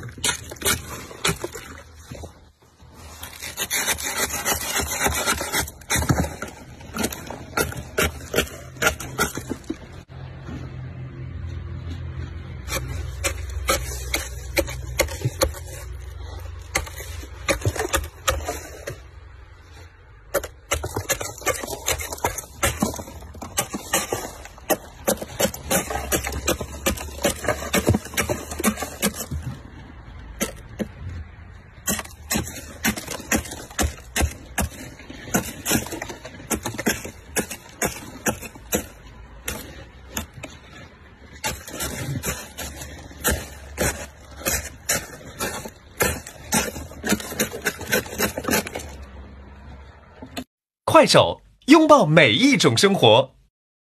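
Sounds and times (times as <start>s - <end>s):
scraper crunching through frost: 0.0s - 10.2s, 12.1s - 50.0s.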